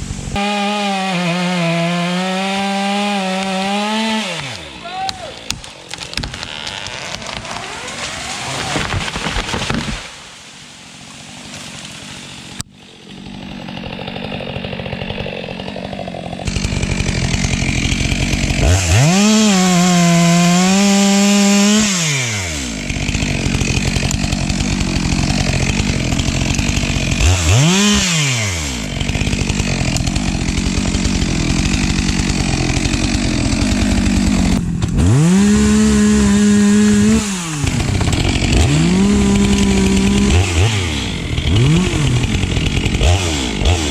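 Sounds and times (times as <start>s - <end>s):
chainsaw idling and revving: 0.0s - 9.2s, 11.2s - 43.9s.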